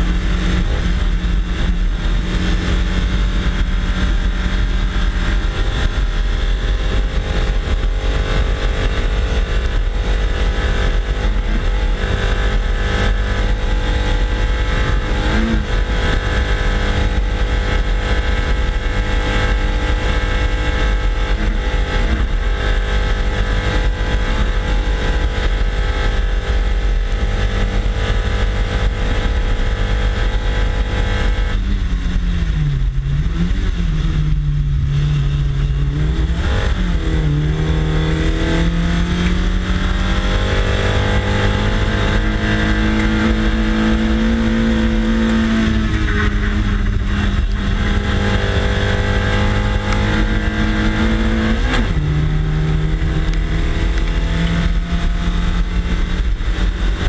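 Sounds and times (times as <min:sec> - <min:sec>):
race car engine revving: 0:00.0 - 0:57.0
road rumble: 0:00.0 - 0:57.0
wind noise: 0:00.0 - 0:57.0.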